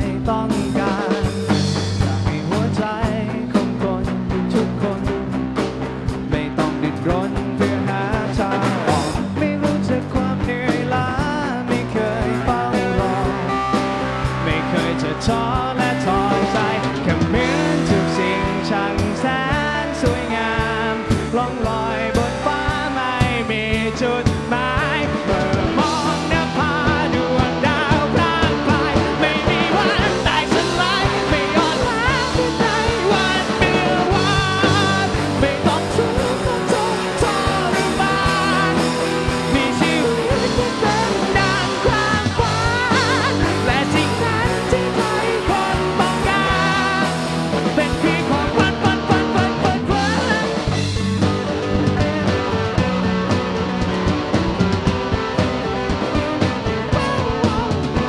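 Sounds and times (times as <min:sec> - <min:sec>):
drums steady beat: 0:00.0 - 0:58.0
rock band playing: 0:00.0 - 0:58.0.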